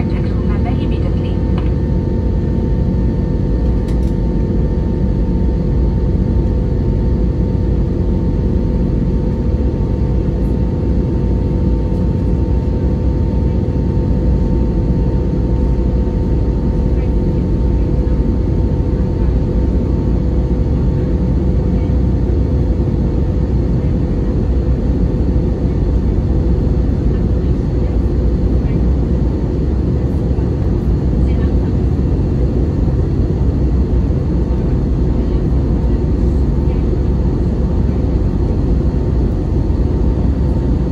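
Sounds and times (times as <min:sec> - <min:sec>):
airplane cabin engine roar: 0:00.0 - 0:40.9.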